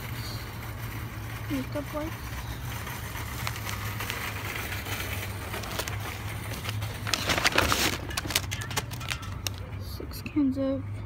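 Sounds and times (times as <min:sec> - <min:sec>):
groceries rustling in a cart: 0:00.0 - 0:10.2.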